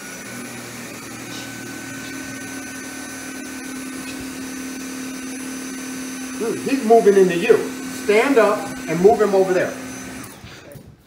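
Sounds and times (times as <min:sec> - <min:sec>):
vacuum cleaner running: 0:00.0 - 0:10.8.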